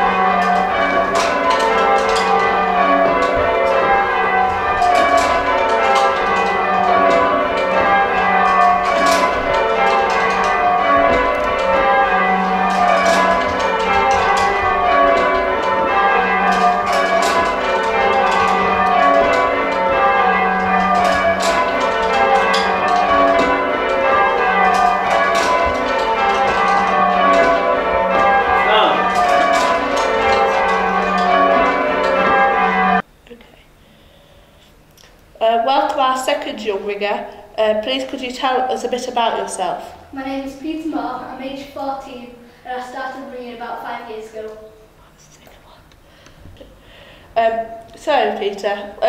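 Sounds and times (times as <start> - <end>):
church bells ringing: 0.0 - 33.1, 35.4 - 45.0, 46.8 - 49.0.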